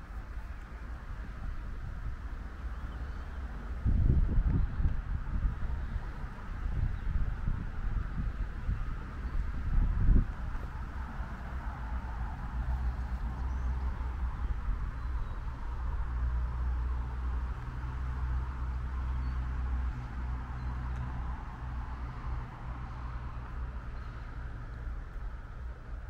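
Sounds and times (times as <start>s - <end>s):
distant traffic hum: 0.0s - 26.0s
wind rumbling on microphone: 0.0s - 26.0s.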